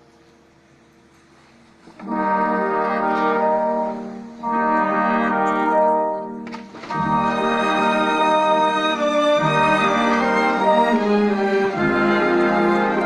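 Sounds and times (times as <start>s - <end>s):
brass playing held chords: 2.0s - 13.0s.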